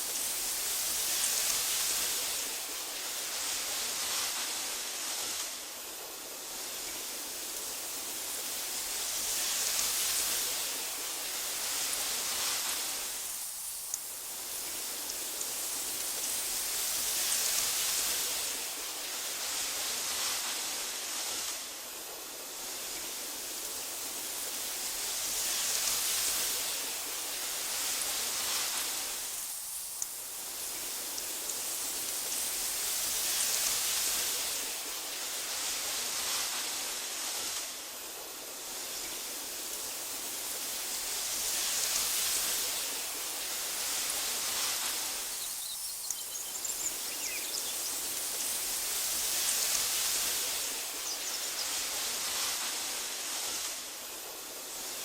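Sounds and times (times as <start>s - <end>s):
wind blowing through grass: 0.0s - 55.0s.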